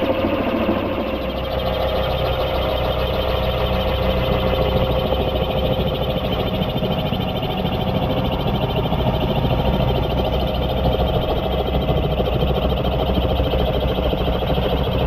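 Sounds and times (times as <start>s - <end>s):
helicopter rotor beat: 0.0s - 15.0s
steady motor tone: 0.0s - 15.0s.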